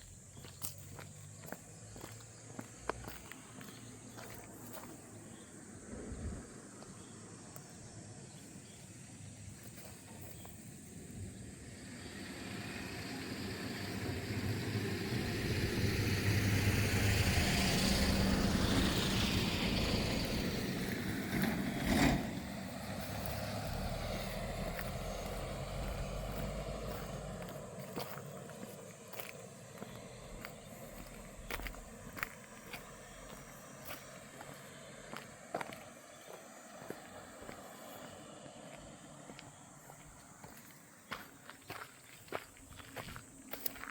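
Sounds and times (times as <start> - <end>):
motor vehicle passing by: 0.0 - 7.4, 9.7 - 41.8.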